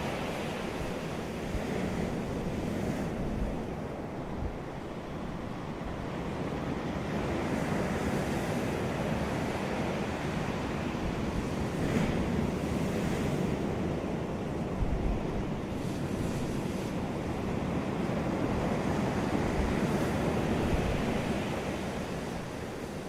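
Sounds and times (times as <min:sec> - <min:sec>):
ocean surf breaking: 0:00.0 - 0:23.0
wind rumbling on microphone: 0:00.0 - 0:23.0.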